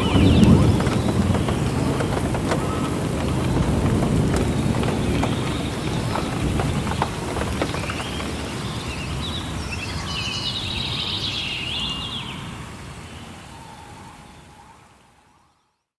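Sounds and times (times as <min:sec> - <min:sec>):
steady rain: 0:00.0 - 0:15.6
birds chirping: 0:00.0 - 0:15.9.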